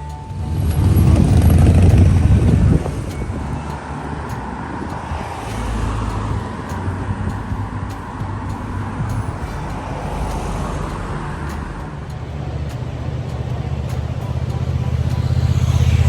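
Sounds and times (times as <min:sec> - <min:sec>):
road noise: 0:00.0 - 0:16.0
vehicle engine humming: 0:00.0 - 0:16.0.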